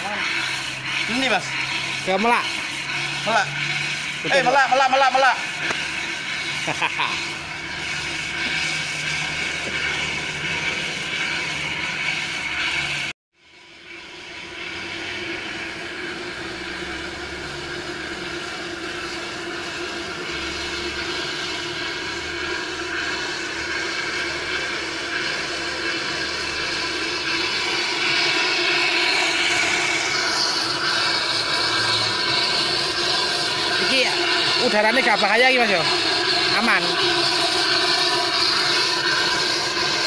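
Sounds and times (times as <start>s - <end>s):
liquid nitrogen hissing through hose: 0.0s - 40.0s
steady hum: 0.0s - 40.0s.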